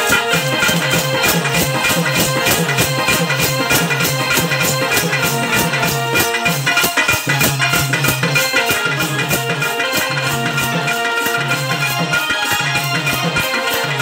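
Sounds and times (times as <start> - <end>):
jingling percussion beat: 0.0 - 14.0
melody notes: 0.0 - 14.0.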